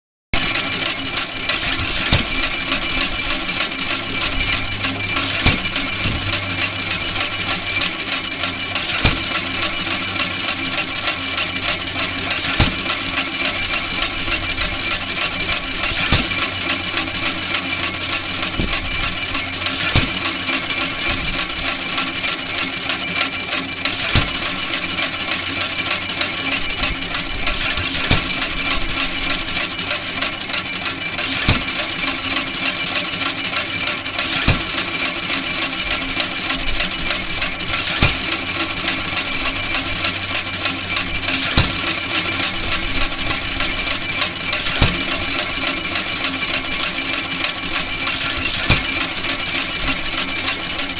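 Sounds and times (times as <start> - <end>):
engine coasting with light clicking: 0.4 - 50.9
stationary gas engine firing: 0.4 - 50.9.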